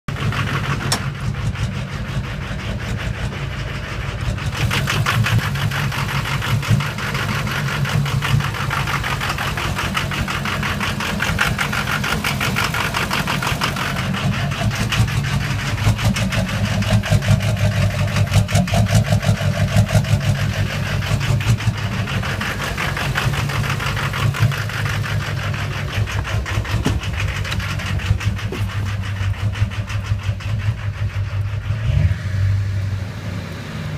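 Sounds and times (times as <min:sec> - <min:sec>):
diesel engine clattering: 0:00.0 - 0:33.9.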